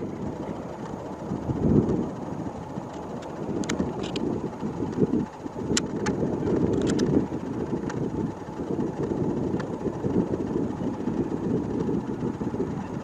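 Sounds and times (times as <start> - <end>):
jet engine low rumble: 0.0 - 13.0.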